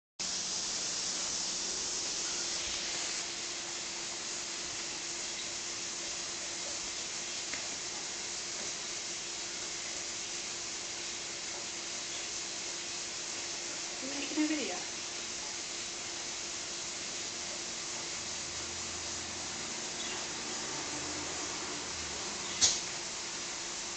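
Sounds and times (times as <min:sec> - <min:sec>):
steady background hiss: 0:00.2 - 0:23.9.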